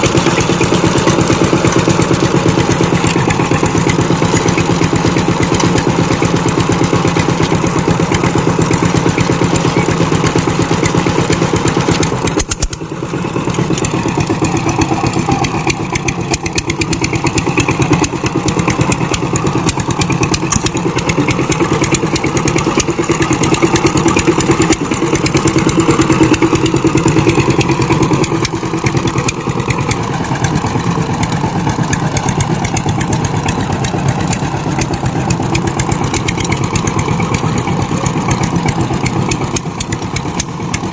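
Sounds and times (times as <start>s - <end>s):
power tiller engine running: 0.0s - 40.9s.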